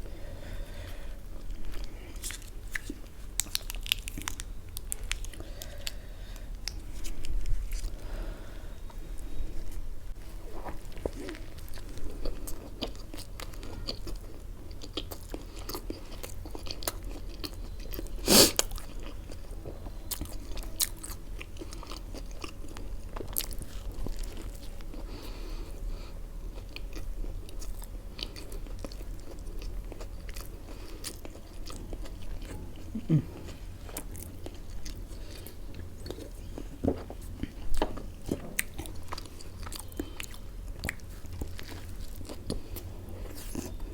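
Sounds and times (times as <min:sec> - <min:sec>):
person chewing food: 0:00.2 - 0:43.9.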